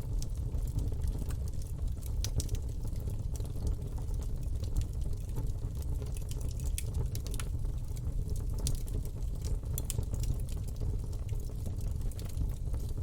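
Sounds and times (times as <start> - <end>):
low rumble of flames: 0.0 - 13.0
wood crackling and popping: 0.1 - 13.0.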